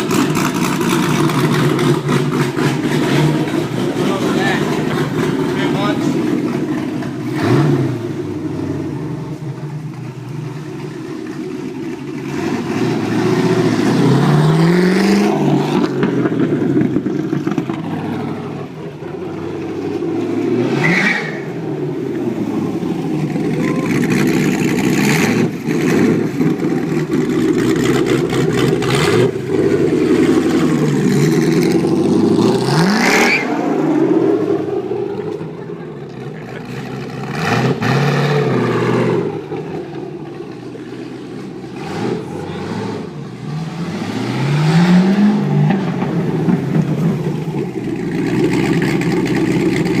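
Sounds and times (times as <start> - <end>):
engine revving through open pipes: 0.0 - 50.0.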